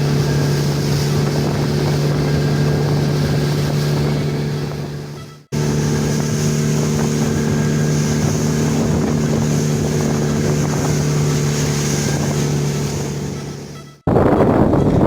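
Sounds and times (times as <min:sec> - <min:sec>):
rushing wind and water: 0:00.0 - 0:15.0
speedboat engine running: 0:00.0 - 0:15.0.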